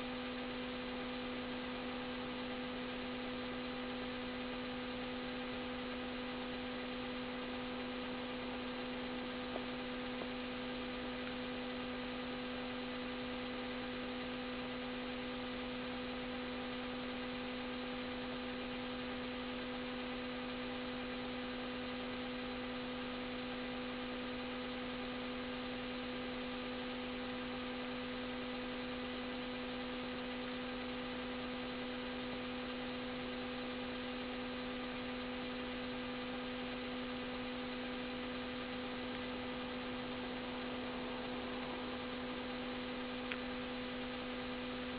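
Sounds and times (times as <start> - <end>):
electrical hum: 0.0 - 44.9
faint hiss: 0.0 - 44.9.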